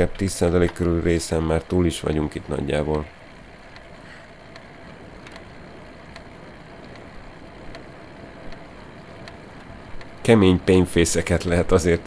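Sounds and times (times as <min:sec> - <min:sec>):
bike tyres on road: 0:00.0 - 0:12.0
faint clicks: 0:00.1 - 0:10.7.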